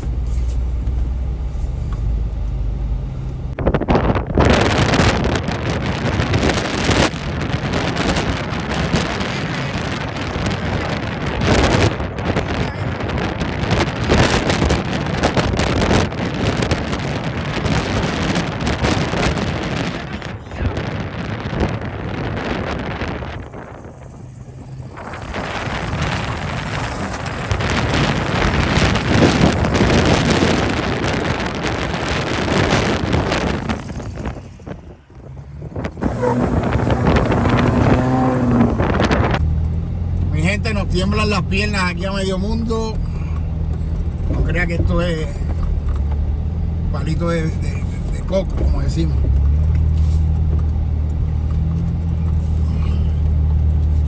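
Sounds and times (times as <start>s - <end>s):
vehicle engine running low: 0.0s - 54.0s
wind buffeting microphone: 3.0s - 54.0s.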